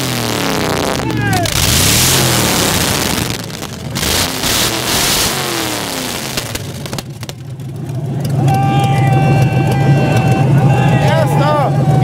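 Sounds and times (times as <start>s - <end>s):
hot rod engine revving: 0.0s - 12.0s.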